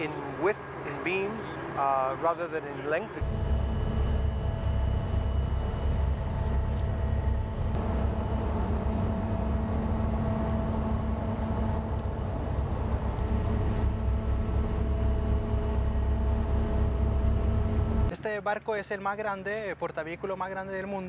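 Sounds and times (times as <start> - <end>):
ship engines droning: 0.0 - 18.2.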